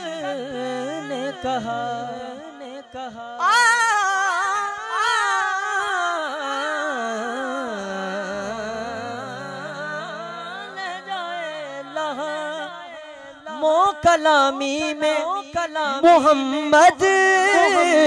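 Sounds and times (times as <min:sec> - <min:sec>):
man singing through a microphone: 0:00.0 - 0:18.0.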